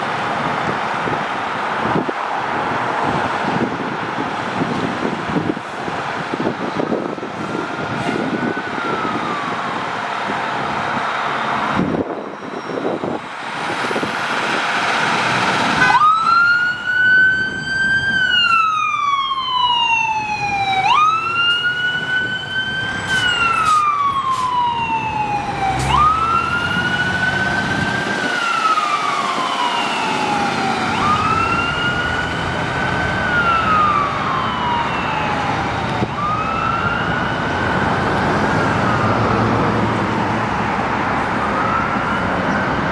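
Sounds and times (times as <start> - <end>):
traffic noise: 0.0 - 42.9
fire truck siren wailing: 0.1 - 42.9.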